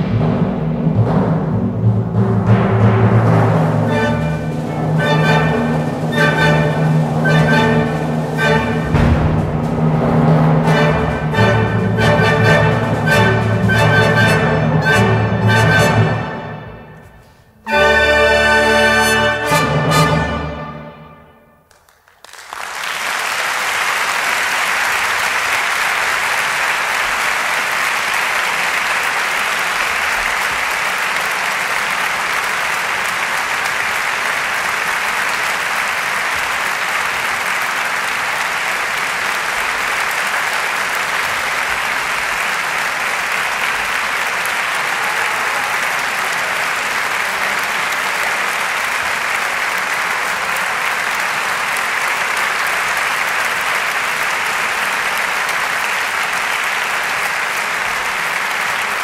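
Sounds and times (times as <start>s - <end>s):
audience applause: 3.9s - 17.1s, 21.7s - 59.0s.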